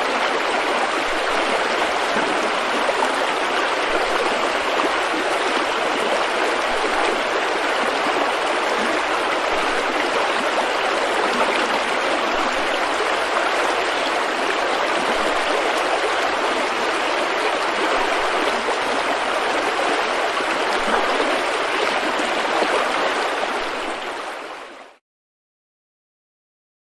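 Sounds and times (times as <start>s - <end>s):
water rushing over rocks: 0.0s - 24.6s.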